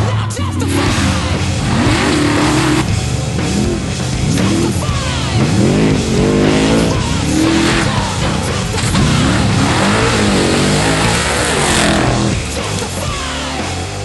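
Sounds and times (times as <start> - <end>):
engine revving: 0.4 - 13.7.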